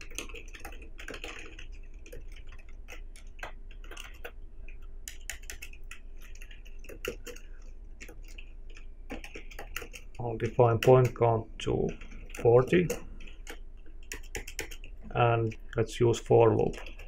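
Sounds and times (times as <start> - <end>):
keyboard typing clicks: 0.0 - 15.9, 16.5 - 17.0
faint steady hum: 0.0 - 17.0.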